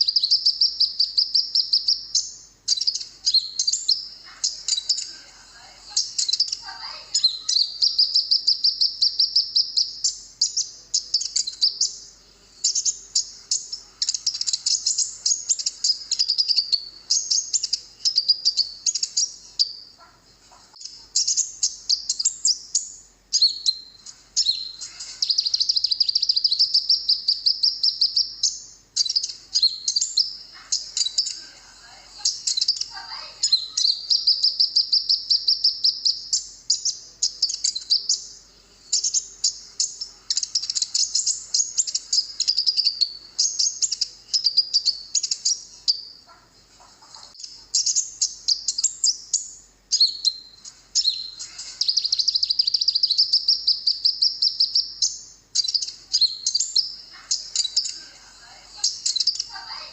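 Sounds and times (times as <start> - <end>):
sunbird trilling and twittering: 0.0 - 59.9.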